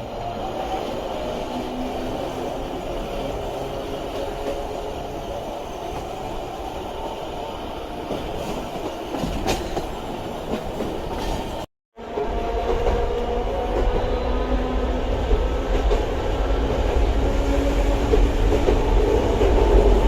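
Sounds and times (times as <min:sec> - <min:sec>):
electric train running on track: 0:00.0 - 0:20.0.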